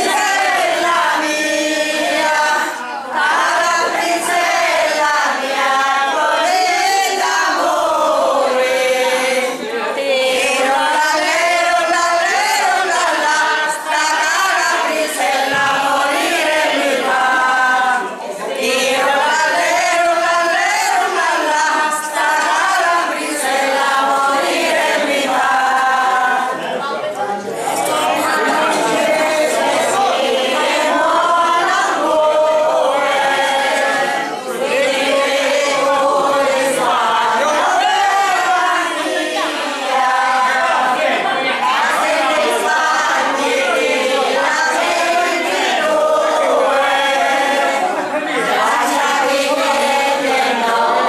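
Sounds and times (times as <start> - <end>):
women singing unaccompanied: 0.0 - 26.9, 27.7 - 51.0.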